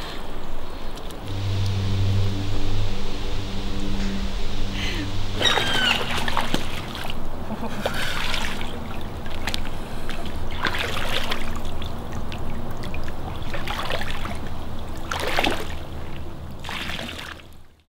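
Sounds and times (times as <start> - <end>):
steady low rumble: 0.5 - 16.8
muddy water splashing: 1.2 - 17.8.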